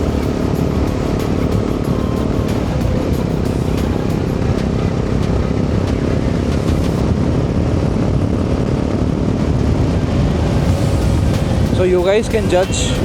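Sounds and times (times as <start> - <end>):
motorcycle exhaust: 0.0 - 13.0
wind buffeting: 0.0 - 13.0.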